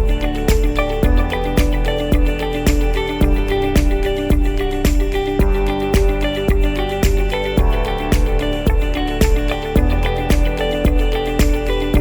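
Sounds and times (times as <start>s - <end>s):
background music with guitar: 0.0s - 12.0s.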